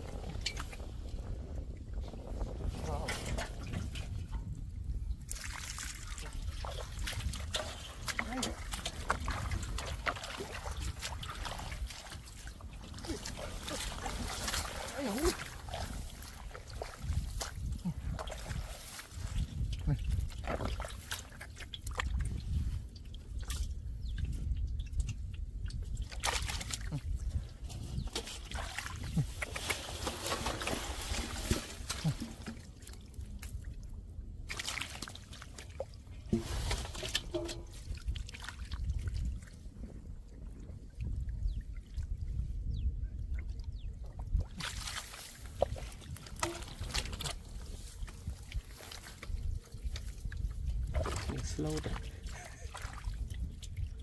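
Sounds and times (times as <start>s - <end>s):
muddy water splashing: 0.0s - 54.0s.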